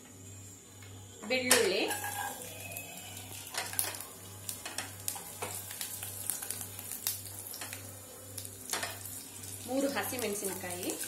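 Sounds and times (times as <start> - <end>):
garlic sizzling in hot oil: 1.5 - 11.0
oil popping and crackling: 2.1 - 11.0.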